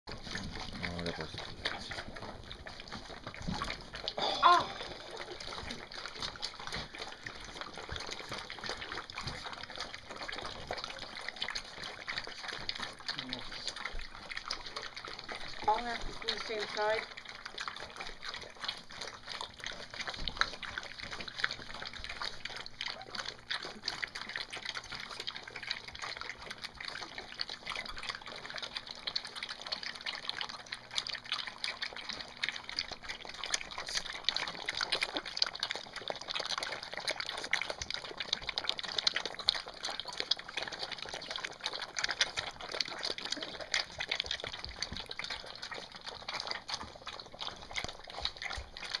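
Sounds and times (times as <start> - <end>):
puppies lapping and chewing: 0.1 - 49.0.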